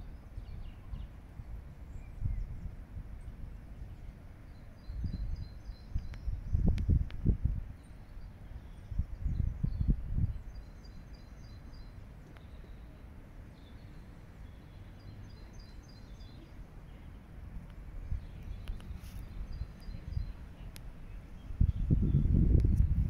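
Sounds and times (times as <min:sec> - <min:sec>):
low outdoor background rumble: 0:00.0 - 0:23.0
songbird chirping: 0:00.0 - 0:23.0.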